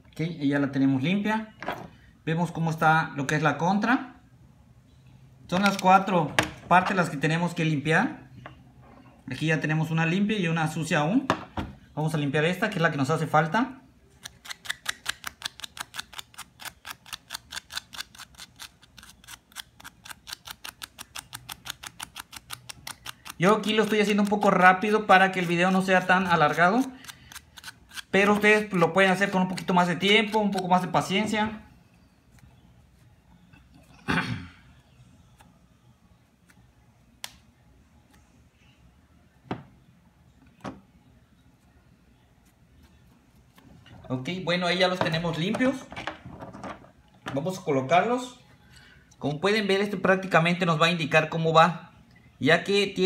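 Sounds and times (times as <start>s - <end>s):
faint low hum: 0.0s - 50.6s.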